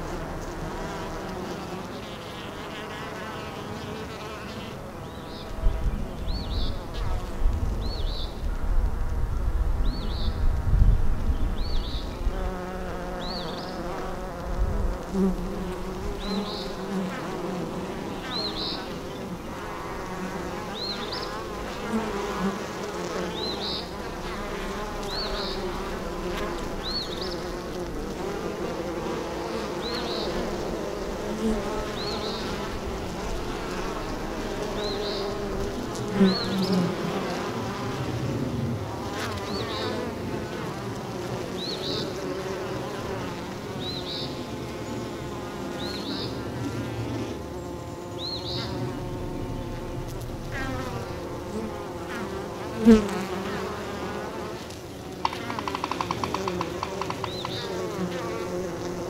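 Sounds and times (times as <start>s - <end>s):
bees buzzing: 0.0s - 8.4s, 11.3s - 59.0s.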